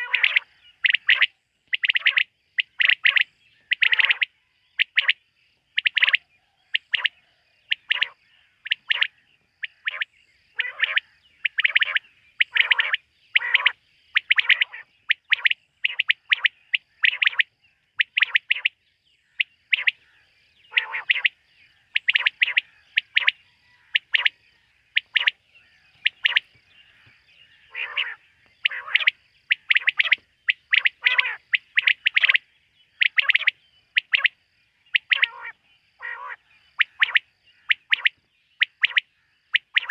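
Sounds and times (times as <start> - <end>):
quail calling: 0.0 - 5.2, 5.8 - 39.9.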